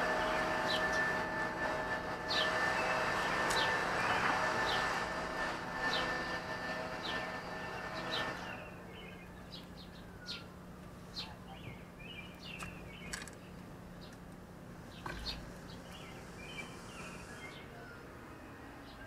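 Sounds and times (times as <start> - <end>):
small birds chirping: 0.0 - 1.3, 2.2 - 19.0
steady low hum: 0.0 - 19.0.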